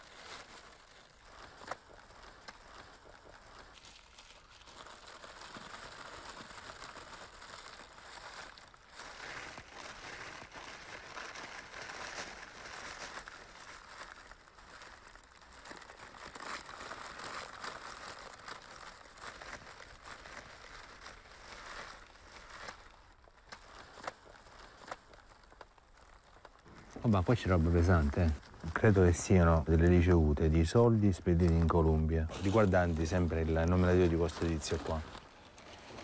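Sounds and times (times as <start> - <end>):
plastic bag crinkling: 0.0 - 36.0.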